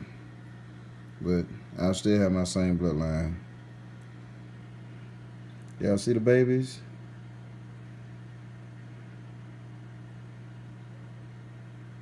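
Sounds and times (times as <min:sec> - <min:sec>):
low electric hum with hiss: 0:00.0 - 0:12.0.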